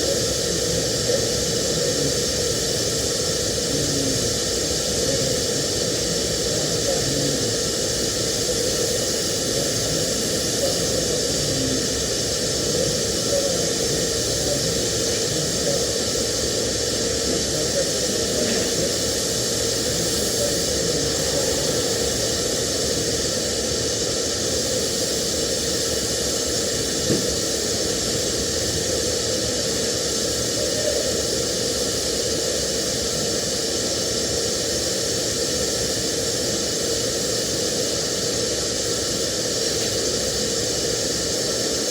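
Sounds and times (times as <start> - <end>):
welding arc hissing: 0.0 - 41.9.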